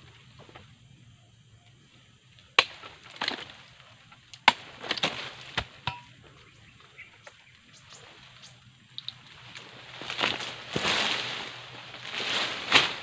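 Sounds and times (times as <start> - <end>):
cracking and rustling of fronds: 1.6 - 13.0.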